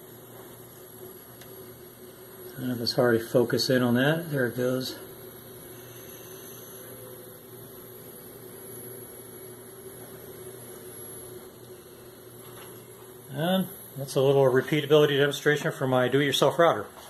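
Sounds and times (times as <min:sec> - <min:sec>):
faint steady hum with hiss: 0:00.0 - 0:17.0.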